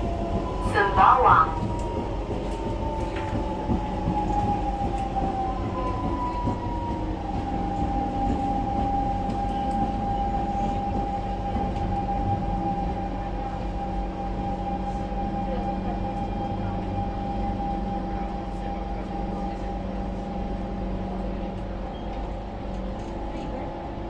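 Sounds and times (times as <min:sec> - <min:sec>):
low rumble of train wheels: 0:00.0 - 0:24.0
train inverter and motors whining: 0:00.0 - 0:24.0.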